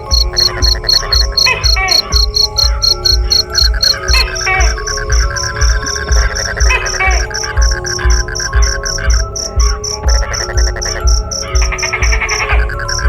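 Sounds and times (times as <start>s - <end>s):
background music with low beat: 0.0s - 13.0s.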